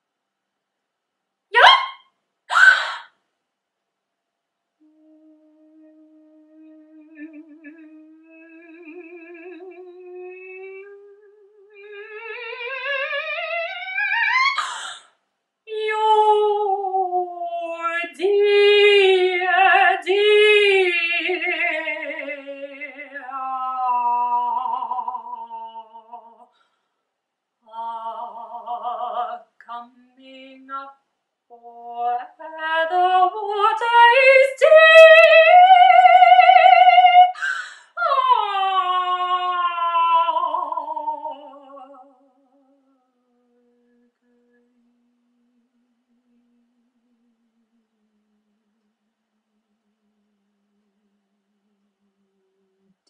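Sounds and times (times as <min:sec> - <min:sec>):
woman singing with vibrato: 0:01.6 - 0:03.1, 0:04.8 - 0:15.0, 0:15.7 - 0:26.5, 0:27.6 - 0:48.6.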